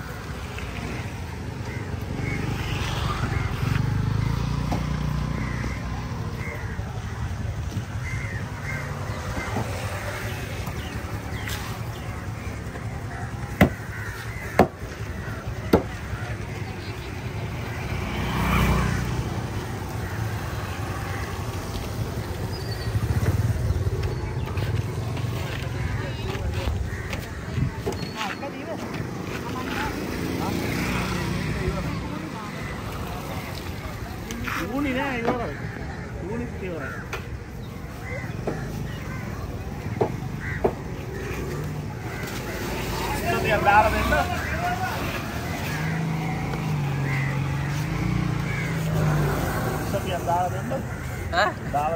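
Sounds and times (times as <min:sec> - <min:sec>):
crows cawing: 0:00.2 - 0:16.8, 0:25.4 - 0:28.3, 0:29.4 - 0:51.9.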